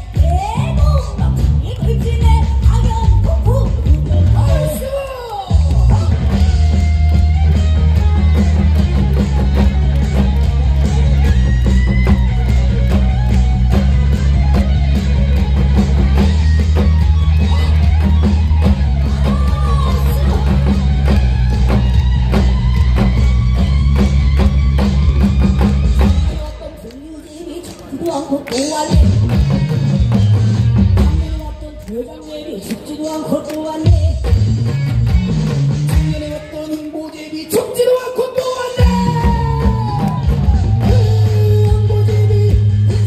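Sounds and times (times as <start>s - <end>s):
drum kit beat: 0.0s - 26.8s, 28.4s - 31.7s, 33.8s - 36.8s, 38.7s - 43.0s
electric guitar: 0.0s - 43.0s.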